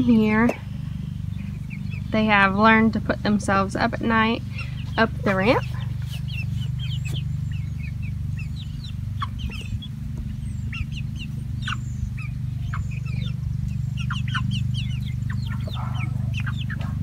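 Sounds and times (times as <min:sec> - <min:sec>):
chicks peeping: 0:00.0 - 0:17.0
low hum: 0:00.0 - 0:17.0.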